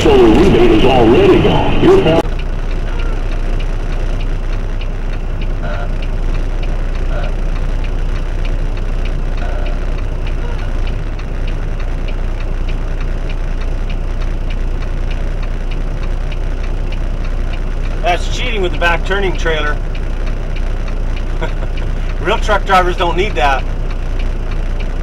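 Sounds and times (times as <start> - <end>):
truck engine rumbling: 0.0 - 25.0
turn signal clicking: 2.2 - 25.0.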